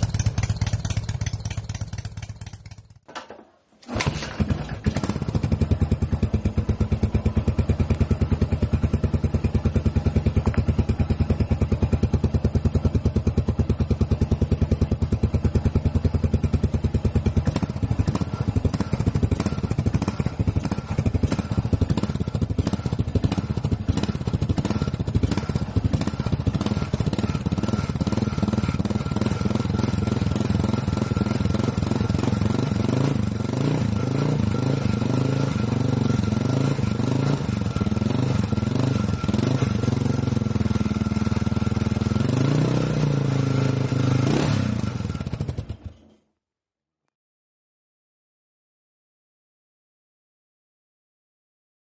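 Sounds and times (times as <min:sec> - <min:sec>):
motorcycle engine running: 0:00.0 - 0:03.1, 0:03.9 - 0:46.2.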